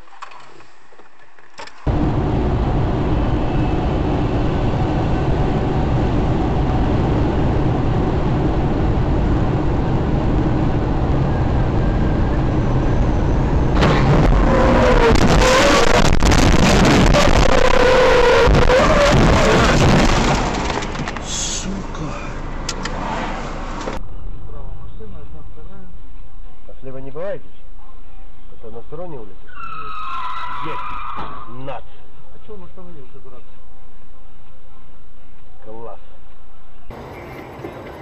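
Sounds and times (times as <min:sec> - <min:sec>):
moving vehicle rumble: 0:00.0 - 0:26.8, 0:27.4 - 0:38.0.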